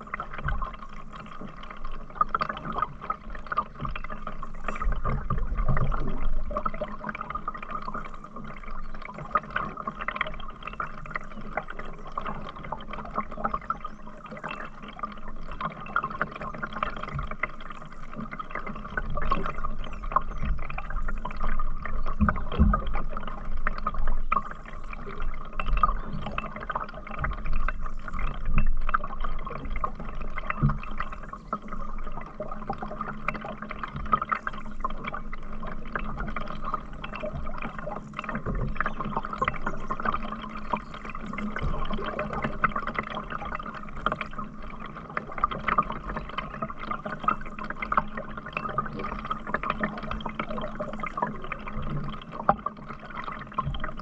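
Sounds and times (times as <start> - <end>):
water sloshing and dripping: 0.0 - 54.0.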